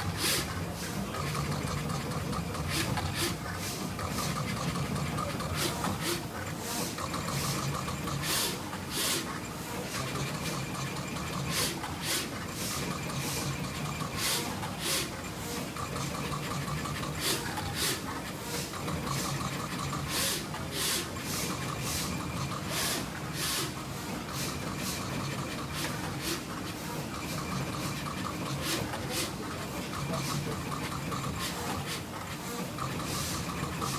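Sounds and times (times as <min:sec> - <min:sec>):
steady motor hum: 0:00.0 - 0:33.9.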